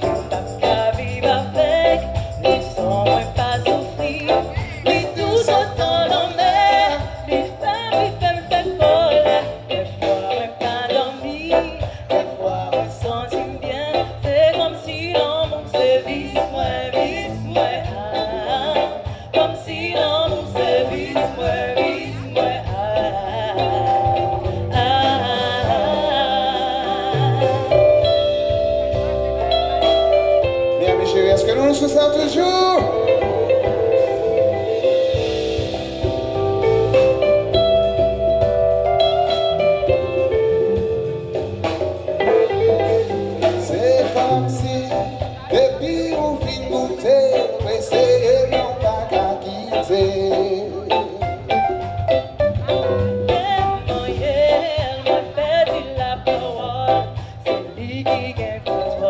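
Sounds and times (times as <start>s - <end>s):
live band music: 0.0s - 59.0s
person singing: 0.0s - 59.0s
steady bass line: 0.0s - 59.0s.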